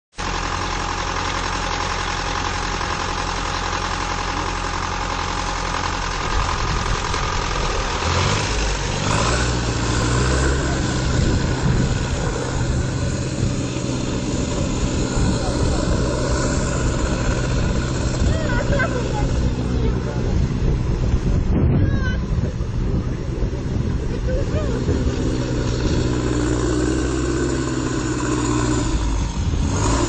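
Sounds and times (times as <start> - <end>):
vehicle engine running: 0.1 - 30.0.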